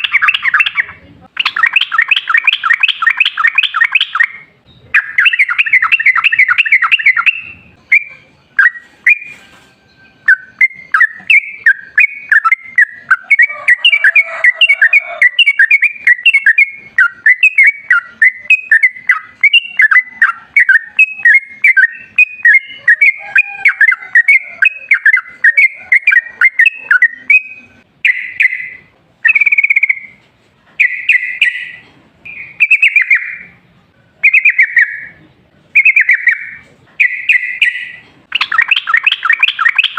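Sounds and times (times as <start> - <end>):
bulbul chattering song: 0.0 - 30.2, 30.8 - 39.9.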